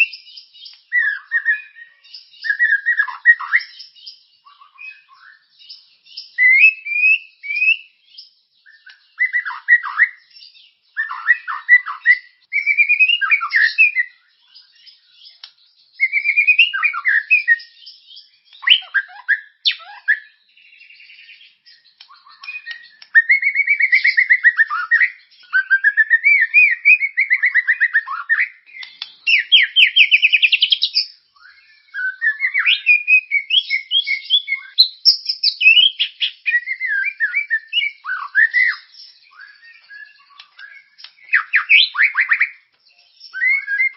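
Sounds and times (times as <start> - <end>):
songbird whistles and trills: 0.0 - 43.9.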